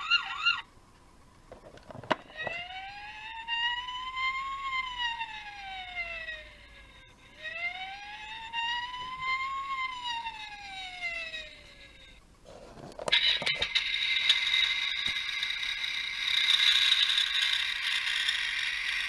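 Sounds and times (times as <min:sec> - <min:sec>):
toy electronic siren wailing: 0:00.0 - 0:00.7, 0:02.2 - 0:12.2, 0:13.1 - 0:19.0.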